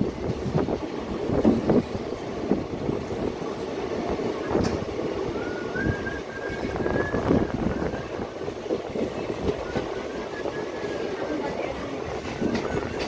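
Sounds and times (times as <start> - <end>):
train rattling and clattering: 0.0 - 13.0
train wheels rumbling on rails: 0.0 - 13.0.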